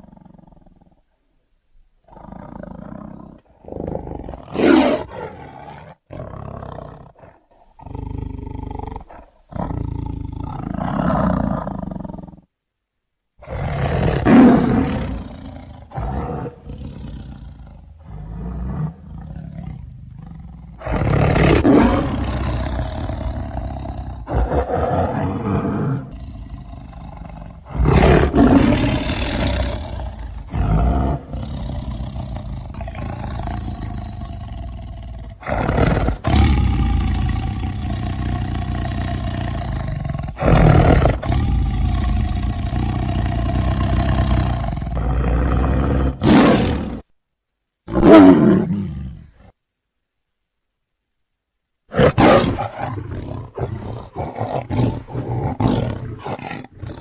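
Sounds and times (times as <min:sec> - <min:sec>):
tiger roaring: 0:00.0 - 0:01.0, 0:02.0 - 0:12.5, 0:13.4 - 0:47.1, 0:47.9 - 0:49.6, 0:51.9 - 0:57.0
tiger growling: 0:00.0 - 0:01.2, 0:02.0 - 0:12.5, 0:13.4 - 0:47.1, 0:47.9 - 0:49.6, 0:51.9 - 0:57.0.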